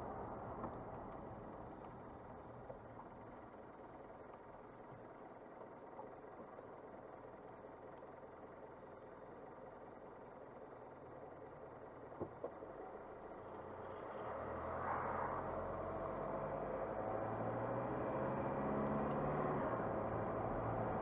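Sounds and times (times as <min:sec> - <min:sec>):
car driving along a road: 0:00.0 - 0:21.0.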